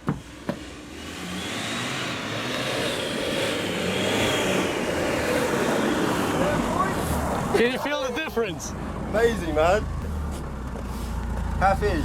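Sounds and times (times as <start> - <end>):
car engine accelerating: 0.0 - 12.0
road noise: 0.0 - 12.0.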